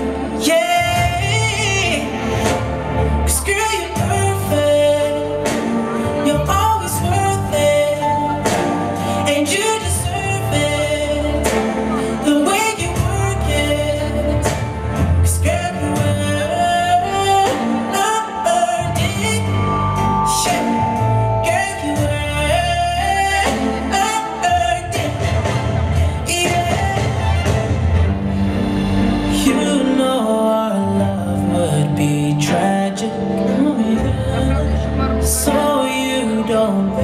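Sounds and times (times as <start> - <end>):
pop song with singing: 0.0 - 37.0.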